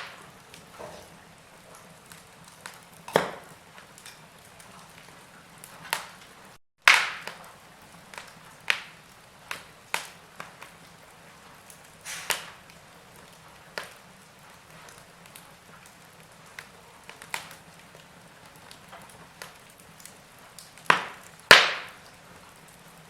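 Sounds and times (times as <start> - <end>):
logs crackling in fireplace: 0.0 - 23.0.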